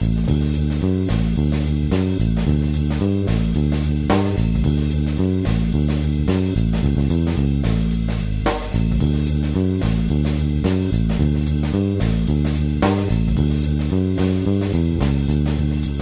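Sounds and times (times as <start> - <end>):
bass guitar: 0.0 - 16.0
drums with steady beat: 0.0 - 16.0.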